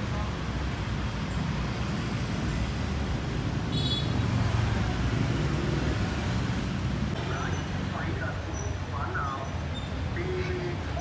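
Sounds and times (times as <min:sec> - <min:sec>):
motorbikes passing rumble: 0:00.0 - 0:11.0.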